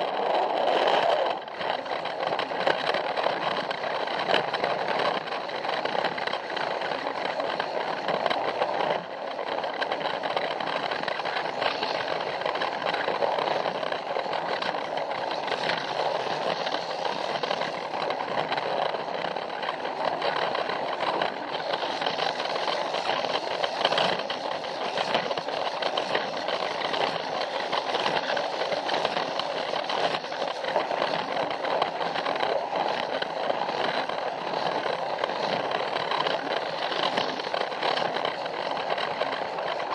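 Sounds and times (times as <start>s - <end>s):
toy train motor whirring: 0.0s - 39.9s
wheels clicking over track: 0.0s - 39.9s.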